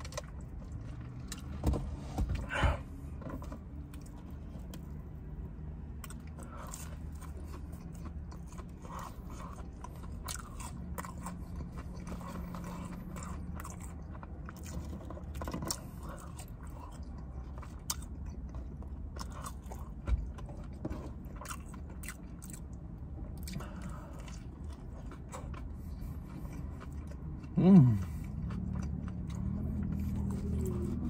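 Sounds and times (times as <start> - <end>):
person chewing food: 0.0 - 1.6, 2.4 - 31.0
steady low hum: 0.0 - 31.0.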